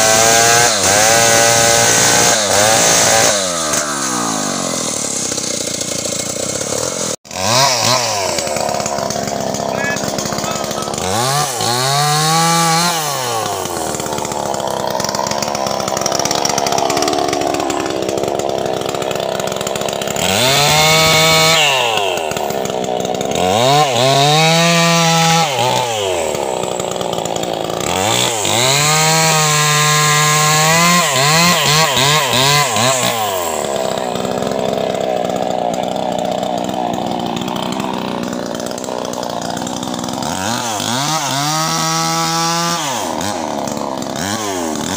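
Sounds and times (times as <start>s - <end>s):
chainsaw cutting and revving: 0.0s - 44.9s.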